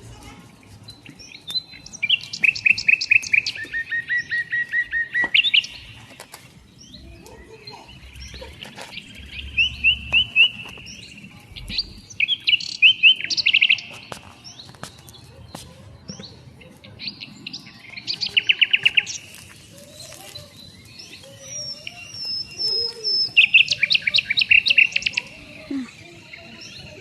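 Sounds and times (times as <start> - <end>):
songbird singing: 0.2 - 27.0.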